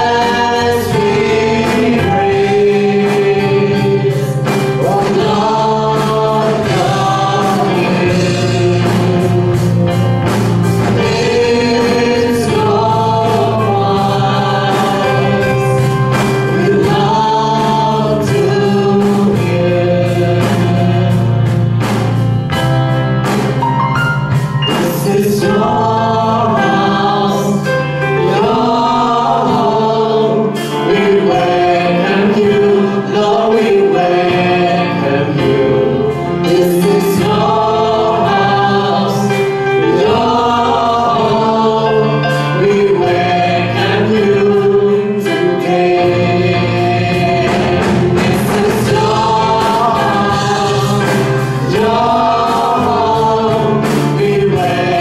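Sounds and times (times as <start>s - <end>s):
group singing gospel song: 0.0s - 55.0s
live band with drums: 0.0s - 55.0s.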